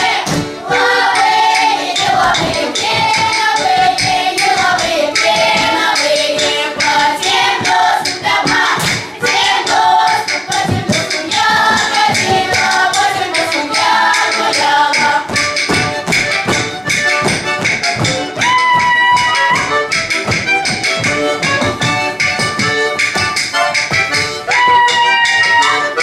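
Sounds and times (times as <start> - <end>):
song with singing voices: 0.0 - 17.0, 17.7 - 20.8, 22.4 - 26.0
percussive beat: 0.0 - 26.0.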